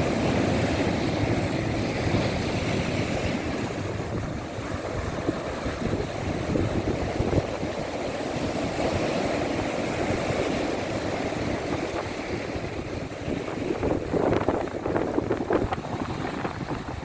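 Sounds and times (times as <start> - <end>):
surf rushing on rocky shore: 0.0 - 17.0.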